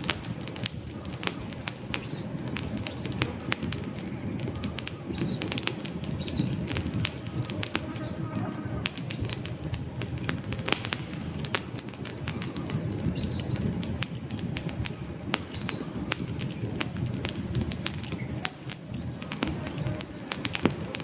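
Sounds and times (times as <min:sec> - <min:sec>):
campfire flames burning: 0:00.0 - 0:21.0
logs crackling and popping: 0:00.0 - 0:21.0.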